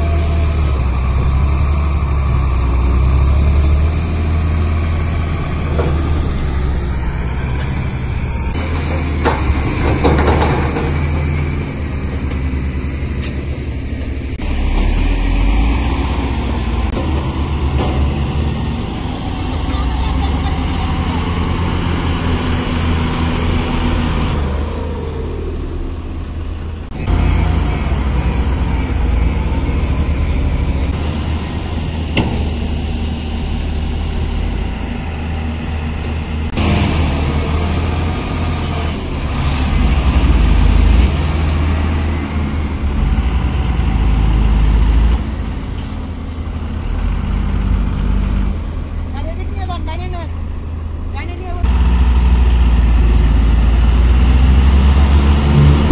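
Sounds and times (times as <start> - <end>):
excavator diesel engine under load: 0.0 - 55.9.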